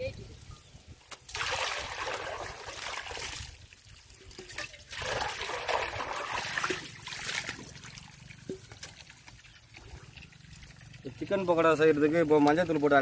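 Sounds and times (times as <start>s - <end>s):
water pouring from pipe: 1.2s - 13.0s
water splashing into steel basin: 1.2s - 13.0s.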